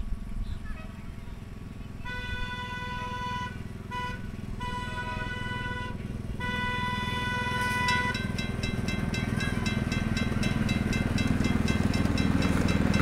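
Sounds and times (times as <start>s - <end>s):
low train rumble: 0.0s - 13.0s
train horn blasts: 2.0s - 13.0s.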